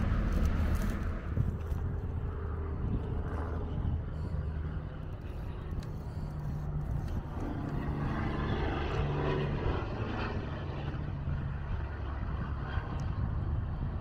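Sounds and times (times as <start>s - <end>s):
vehicle passing: 0.0s - 11.2s
traffic engine drone: 0.0s - 14.0s.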